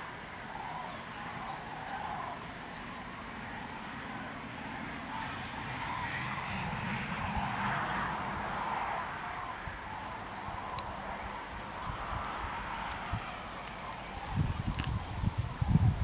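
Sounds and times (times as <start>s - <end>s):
cranes calling in the distance: 0.0s - 8.3s, 9.2s - 16.0s.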